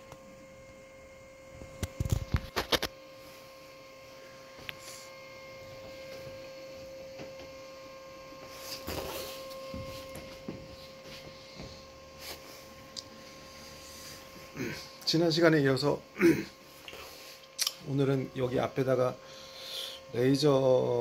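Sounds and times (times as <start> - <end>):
electrical hum with whine: 0.0 - 21.0.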